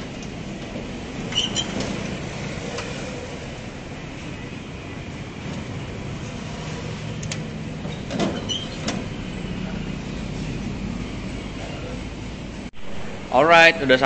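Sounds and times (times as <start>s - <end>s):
car engine and road hum: 0.0s - 13.4s.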